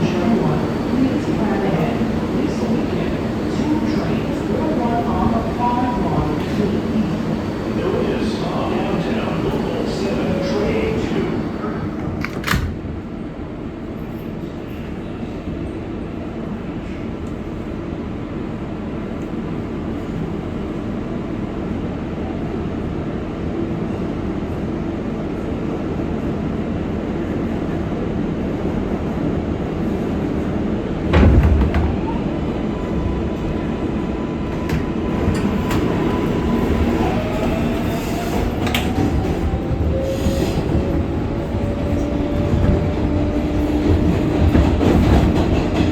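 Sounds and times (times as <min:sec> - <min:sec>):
subway car rumbling on rails: 0:00.0 - 0:45.9.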